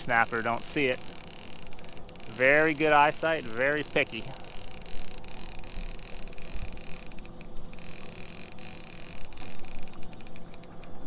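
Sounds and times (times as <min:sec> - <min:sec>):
fishing reel clicker ticking: 0:00.0 - 0:11.0
water: 0:00.0 - 0:11.0
wind: 0:00.0 - 0:11.0.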